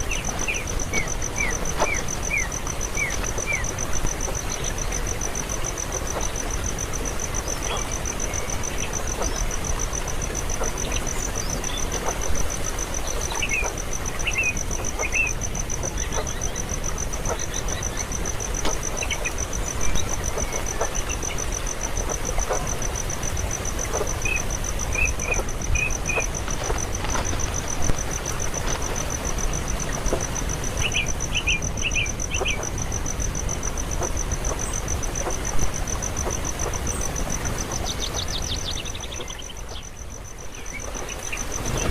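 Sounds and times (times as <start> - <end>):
outdoor noise: 0.0 - 41.9.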